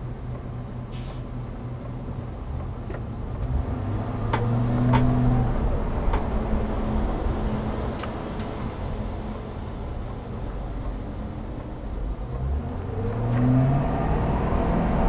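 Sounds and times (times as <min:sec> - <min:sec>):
car engine accelerating: 0:01.7 - 0:15.0.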